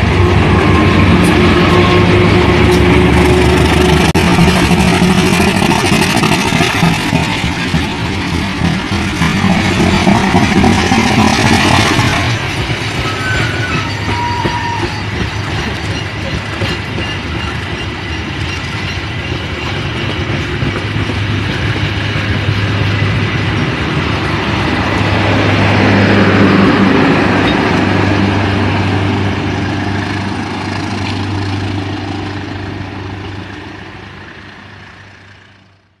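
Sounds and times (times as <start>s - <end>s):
train coaches rolling on rails: 0.0s - 36.0s.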